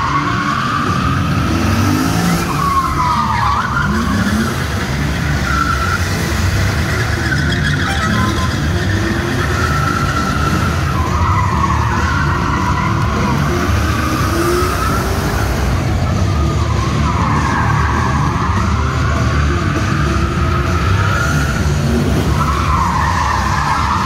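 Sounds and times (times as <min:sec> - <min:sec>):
engine revving hard: 0:00.0 - 0:24.0
tyres squealing: 0:00.0 - 0:24.0.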